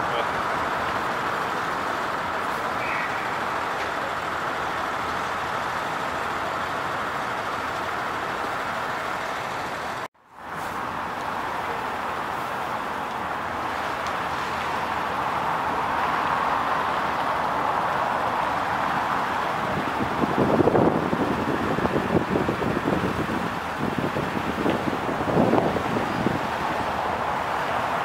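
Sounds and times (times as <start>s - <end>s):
road traffic hum: 0.0s - 28.0s.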